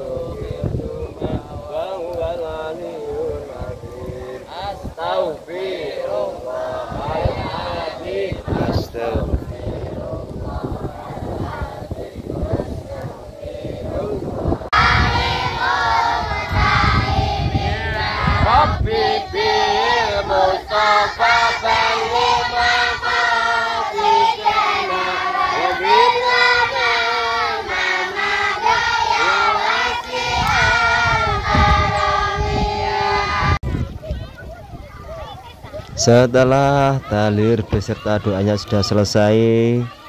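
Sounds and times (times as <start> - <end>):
children and adults chanting in unison: 0.0 - 33.6, 35.9 - 40.0.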